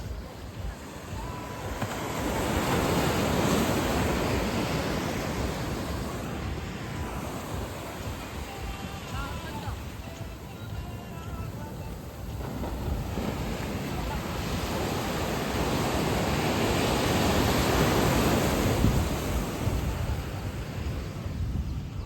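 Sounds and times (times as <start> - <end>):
wave washing over sand: 0.0 - 22.0.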